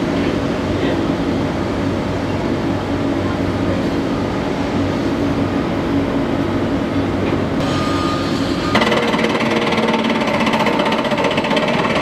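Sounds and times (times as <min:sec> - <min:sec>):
excavator diesel engines droning: 0:00.0 - 0:12.0.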